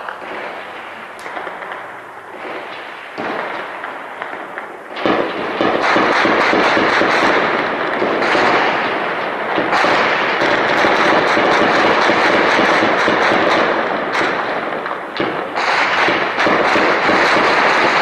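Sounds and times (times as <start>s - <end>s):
heavy gunfire: 0.0s - 18.0s.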